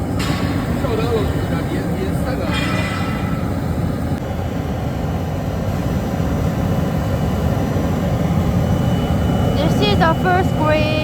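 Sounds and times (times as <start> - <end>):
burner flame roaring: 0.0 - 11.0.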